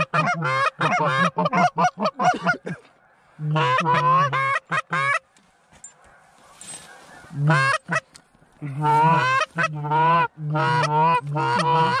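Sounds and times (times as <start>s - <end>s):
goose honking: 0.0s - 5.3s, 6.1s - 12.0s.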